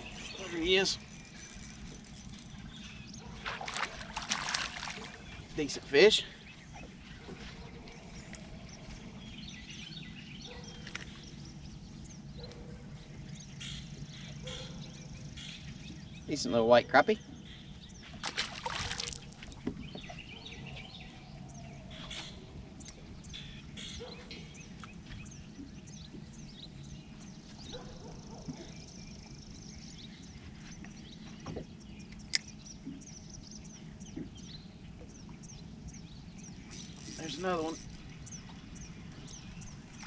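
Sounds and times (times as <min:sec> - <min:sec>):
birds calling and chirping: 0:00.0 - 0:40.0.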